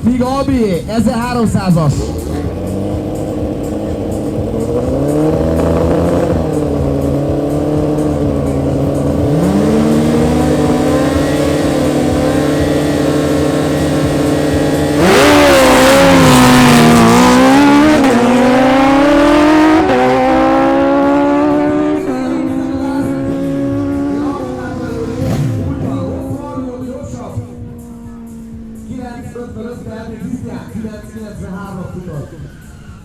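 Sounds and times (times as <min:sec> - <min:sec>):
motorcycle engines revving: 0:00.0 - 0:32.5.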